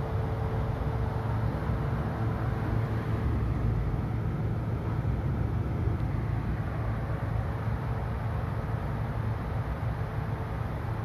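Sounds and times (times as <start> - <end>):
exhaust fan air rushing: 0.0 - 11.0
faint steady tone: 0.0 - 11.0.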